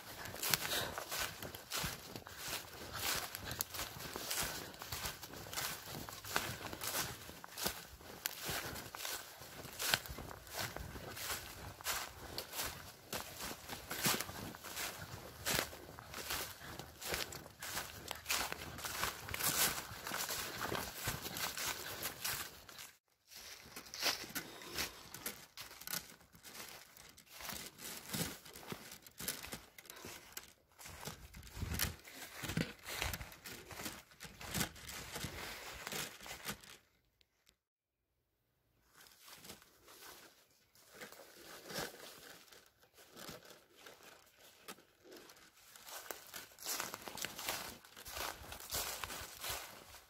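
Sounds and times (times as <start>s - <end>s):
footsteps crunching dry leaves: 0.0s - 36.8s, 39.0s - 50.0s.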